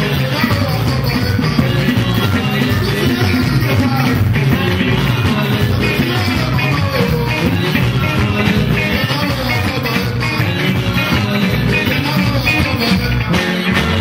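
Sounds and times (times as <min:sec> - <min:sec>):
bass: 0:00.0 - 0:14.0
electric guitar: 0:00.0 - 0:14.0
steady drum beat: 0:00.0 - 0:14.0.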